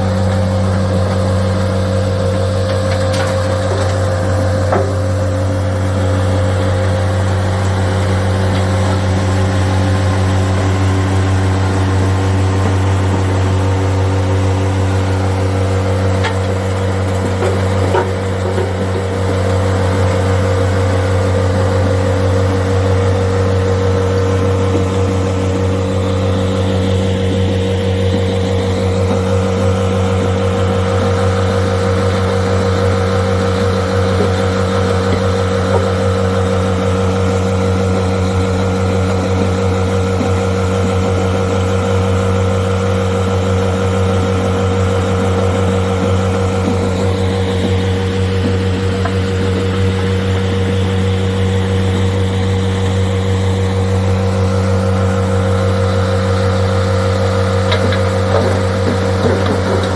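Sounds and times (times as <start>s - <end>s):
diesel engines humming: 0.0s - 59.9s.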